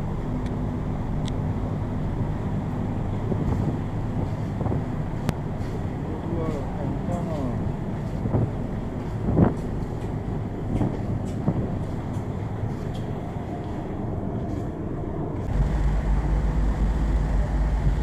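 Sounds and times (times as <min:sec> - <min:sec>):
ship engines low rumble: 0:00.0 - 0:18.0.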